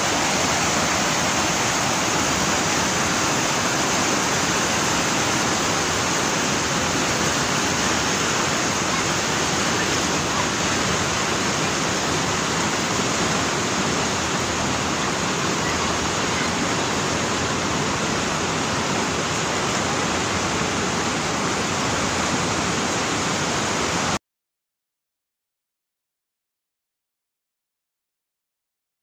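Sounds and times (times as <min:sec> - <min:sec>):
river rushing over rapids: 0:00.0 - 0:24.2.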